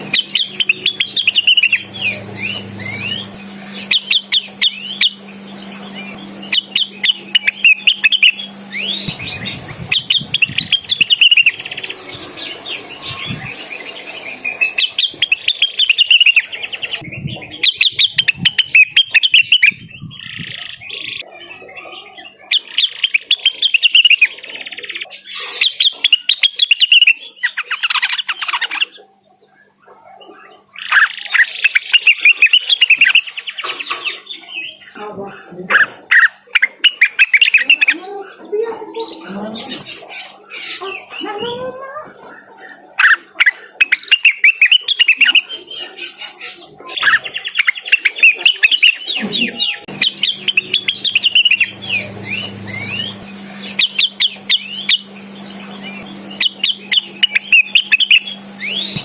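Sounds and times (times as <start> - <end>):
bird singing chirps and trills: 0.0 - 35.1, 35.7 - 59.0.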